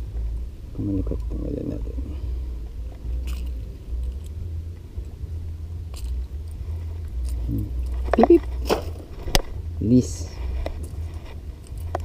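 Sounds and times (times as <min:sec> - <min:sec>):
low uneven rumble: 0:00.0 - 0:12.0.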